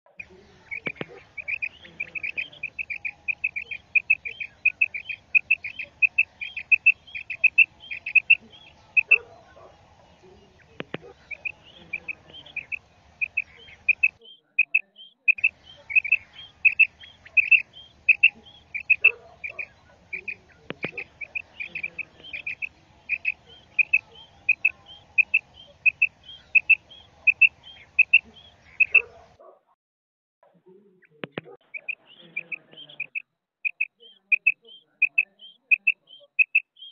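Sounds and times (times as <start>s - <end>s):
quail calling: 0.1s - 29.4s, 31.1s - 36.9s.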